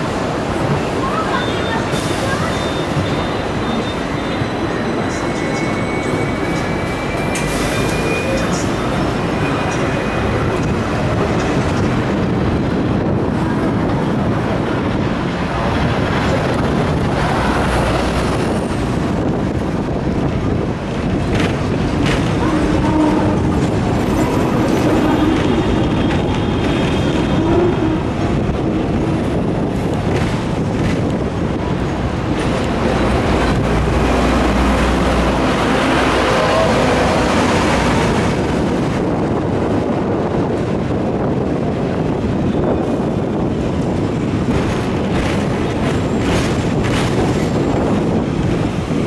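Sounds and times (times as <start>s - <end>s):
tram wheels rumbling on rails: 0.0s - 49.0s.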